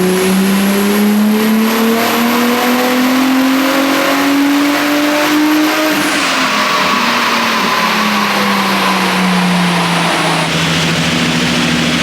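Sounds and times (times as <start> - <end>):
car engine revving at full throttle: 0.0 - 12.0.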